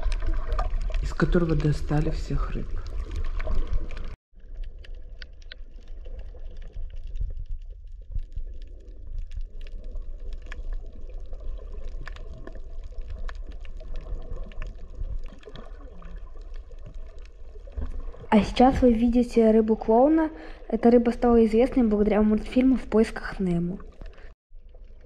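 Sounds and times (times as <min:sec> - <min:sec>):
underwater clicks and crackles: 0:00.0 - 0:19.0, 0:21.7 - 0:25.0.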